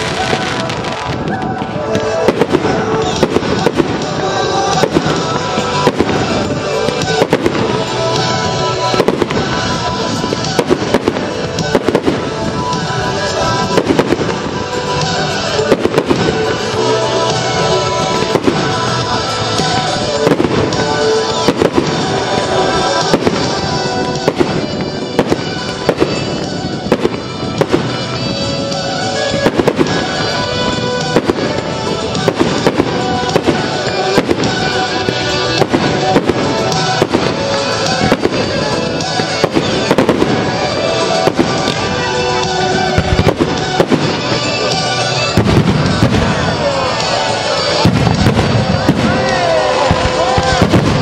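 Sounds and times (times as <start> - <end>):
music soundtrack: 0.0 - 51.0.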